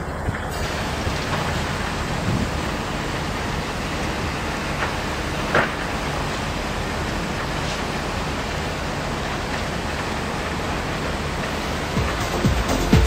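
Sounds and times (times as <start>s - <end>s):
freight train rumbling on bridge: 0.0s - 13.0s
train wheel clicks: 0.0s - 13.0s.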